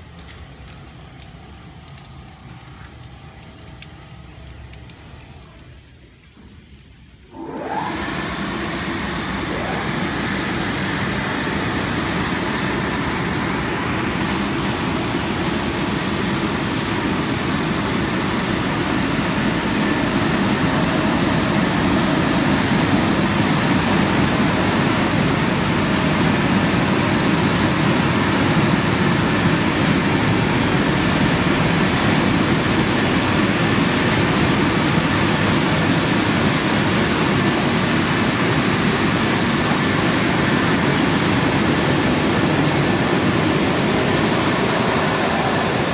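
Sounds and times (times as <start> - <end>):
car wash blowers rushing air: 7.3 - 45.9.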